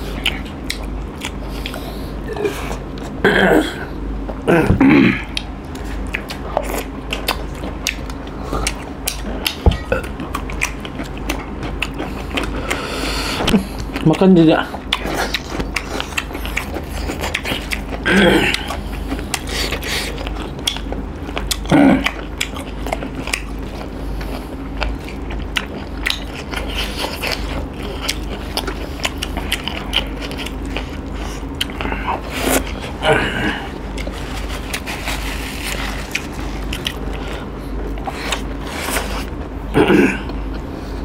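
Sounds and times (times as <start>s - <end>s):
people chewing and biting: 0.0s - 41.0s.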